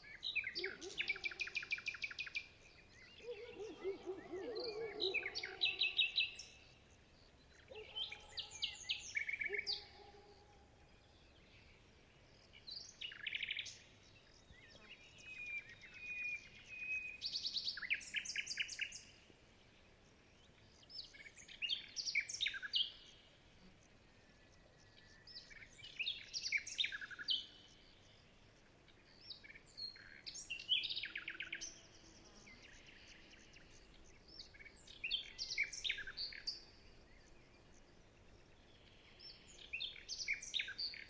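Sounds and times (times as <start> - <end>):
songbirds singing trilled phrases: 0.0 - 41.0.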